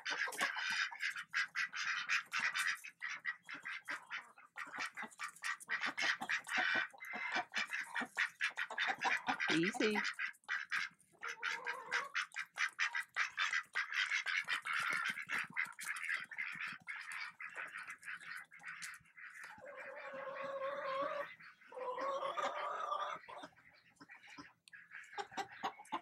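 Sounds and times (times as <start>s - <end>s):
chickens calling: 0.0s - 26.0s
ducks quacking: 0.0s - 26.0s.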